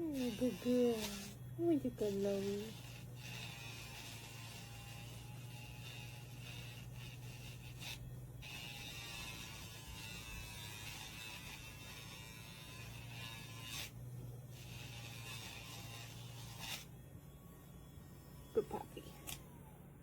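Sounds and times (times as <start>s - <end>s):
electric nail grinder whining: 0.0s - 19.7s.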